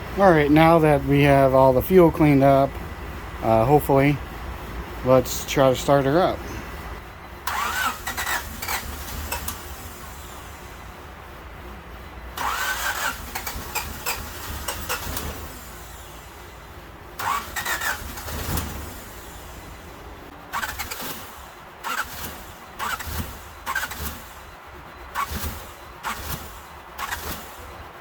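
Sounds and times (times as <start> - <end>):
car engine cranking without starting: 0.0 - 28.0.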